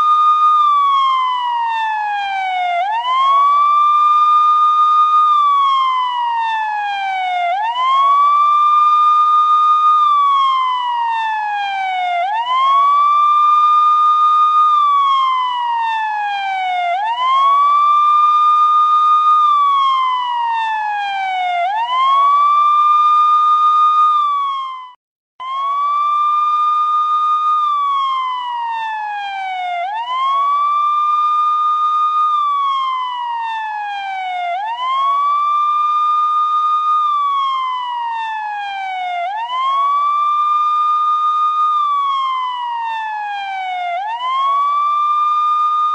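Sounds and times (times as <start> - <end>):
police siren wailing: 0.0 - 45.9.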